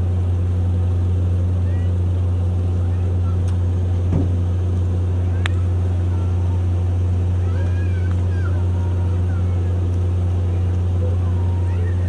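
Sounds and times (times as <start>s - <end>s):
ship machinery humming: 0.0s - 12.0s.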